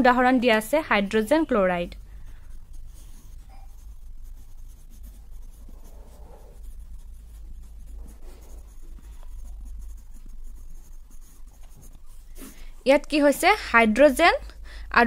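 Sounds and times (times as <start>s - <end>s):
low steady hum: 0.0s - 15.0s
pencil scratching on paper: 0.0s - 15.0s.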